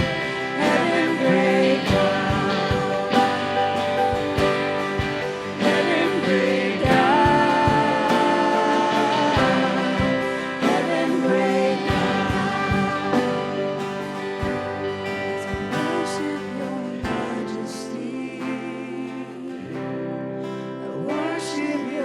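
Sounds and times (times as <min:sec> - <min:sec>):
acoustic guitar: 0:00.0 - 0:22.0
person singing: 0:00.0 - 0:22.0.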